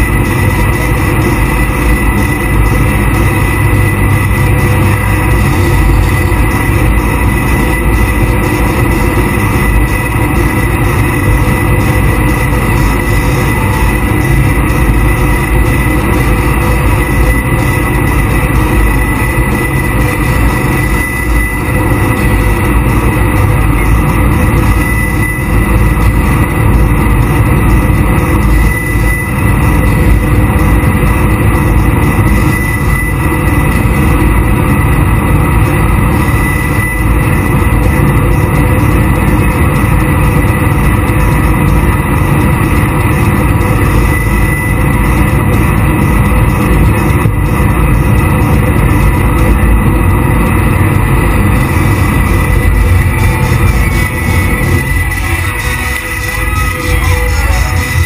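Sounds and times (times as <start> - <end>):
high whine: 0.0 - 58.0
jet boat engine rushing over water: 0.0 - 58.0.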